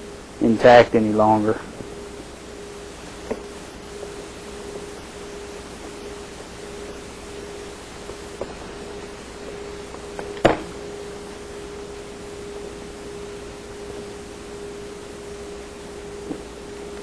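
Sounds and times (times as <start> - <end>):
faint hum: 0.0 - 17.0
steady hiss: 0.0 - 17.0.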